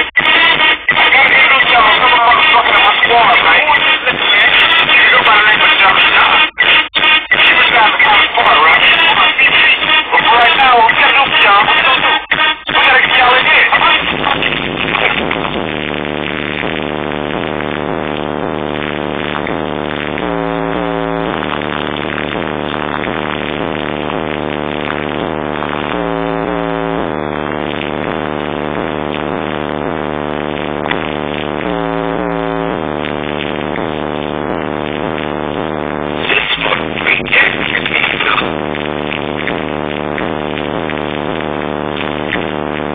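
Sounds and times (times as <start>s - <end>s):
loud music through car speakers: 0.0s - 42.9s.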